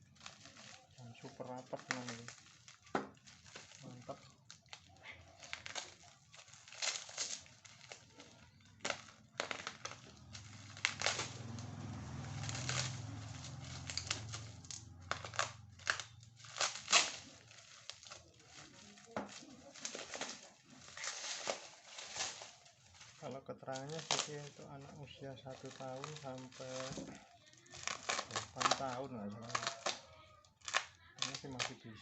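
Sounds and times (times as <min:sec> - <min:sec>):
packaging crinkling: 0:00.0 - 0:32.0.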